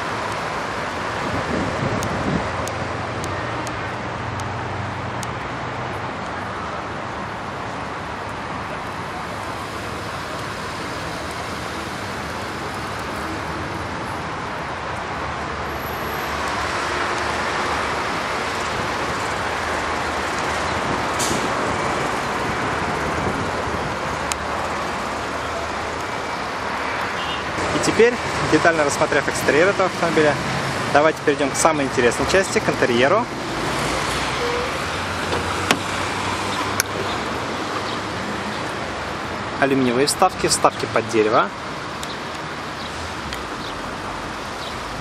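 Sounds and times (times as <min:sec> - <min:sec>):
road traffic rushing: 0:00.0 - 0:45.0.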